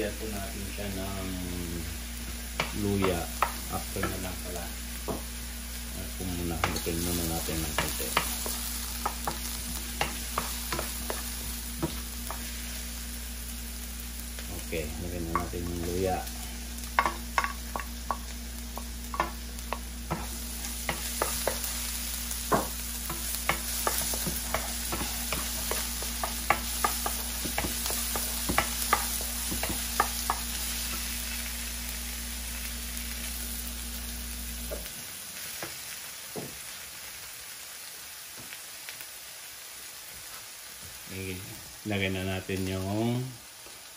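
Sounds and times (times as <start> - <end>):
vegetables sizzling in hot oil: 0.0 - 43.9.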